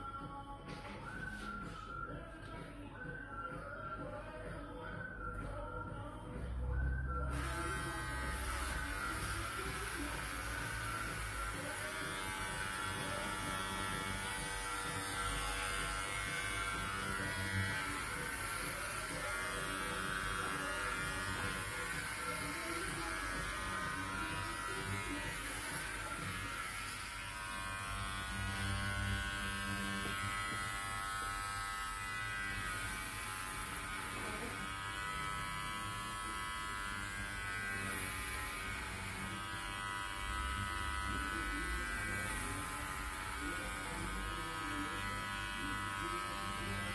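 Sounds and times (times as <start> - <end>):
electric hair clippers buzzing: 7.3 - 46.9.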